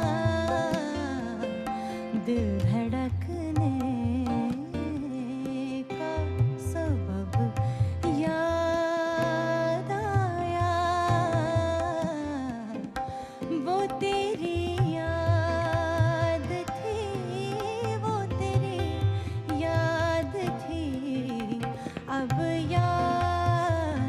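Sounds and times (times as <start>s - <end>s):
tabla drumming: 0.0s - 24.0s.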